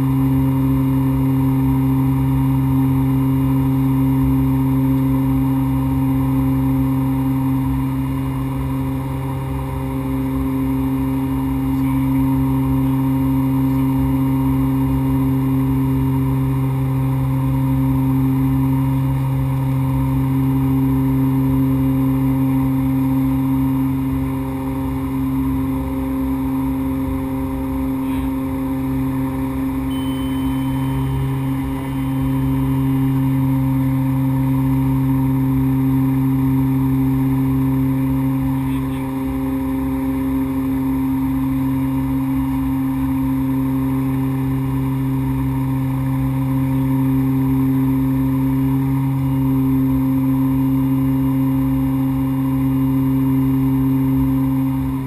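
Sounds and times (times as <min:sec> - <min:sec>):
propeller and engine drone: 0:00.0 - 0:55.0.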